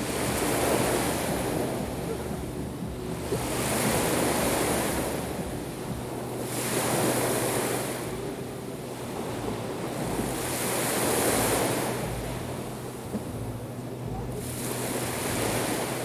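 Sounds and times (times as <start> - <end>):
waves breaking on shore: 0.0 - 16.0
wind rumble on microphone: 0.0 - 16.0.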